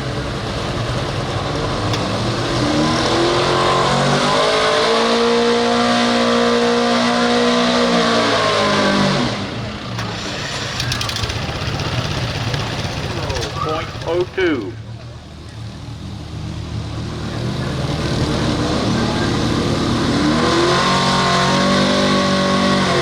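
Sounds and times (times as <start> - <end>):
truck engine at full throttle: 0.0 - 23.0.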